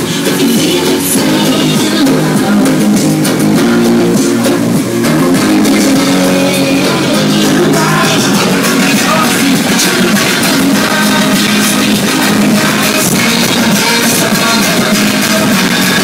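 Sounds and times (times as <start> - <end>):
rock music with guitar: 0.0 - 16.0.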